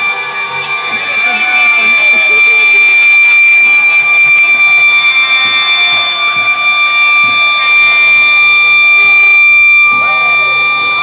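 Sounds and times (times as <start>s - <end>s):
faint shouting voices: 0.0s - 11.0s
high-pitched horn tone: 0.0s - 11.0s.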